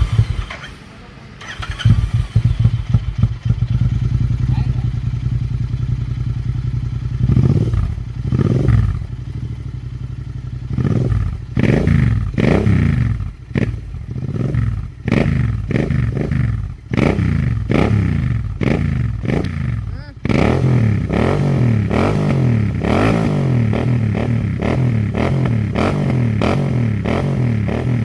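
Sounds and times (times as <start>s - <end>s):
motorcycle engine revving and idling: 0.0s - 28.0s.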